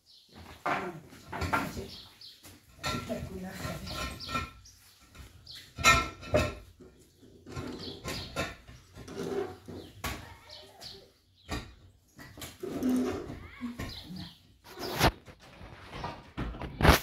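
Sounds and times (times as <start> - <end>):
concrete blocks knocking and scraping: 0.2 - 17.0.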